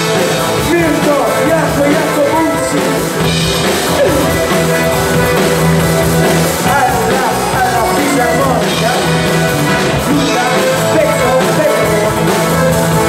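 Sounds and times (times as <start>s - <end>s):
accordion: 0.0s - 13.0s
bass guitar: 0.0s - 13.0s
drum kit: 0.0s - 13.0s.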